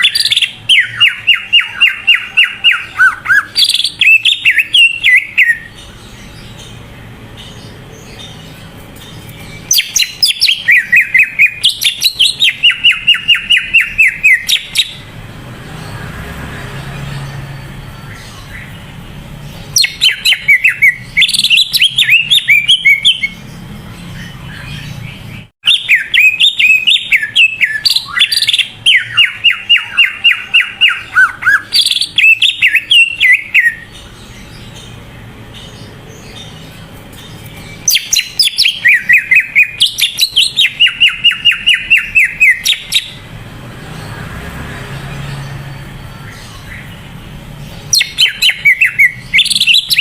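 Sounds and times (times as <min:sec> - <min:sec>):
bird rapid sharp chirping song: 0:00.0 - 0:50.0.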